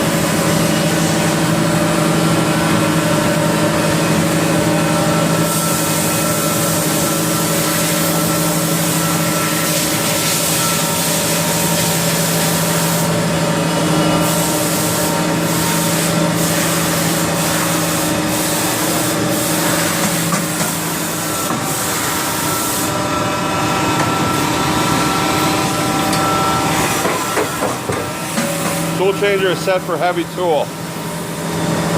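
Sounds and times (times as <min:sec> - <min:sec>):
machine hum with steady tones: 0:00.0 - 0:31.9.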